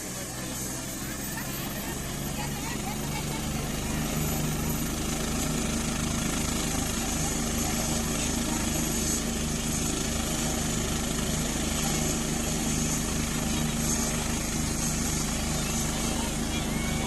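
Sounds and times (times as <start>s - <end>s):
helicopter engine hum: 0.0s - 17.0s
helicopter rotor beat: 0.0s - 17.0s.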